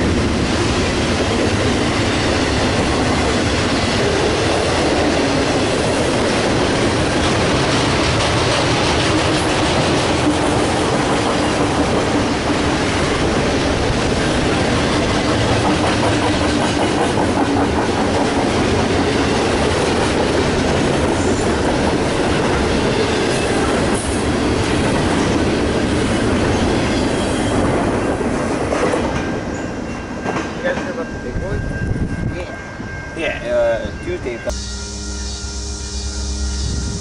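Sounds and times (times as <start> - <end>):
train wheels rumbling on rails: 0.0 - 34.6.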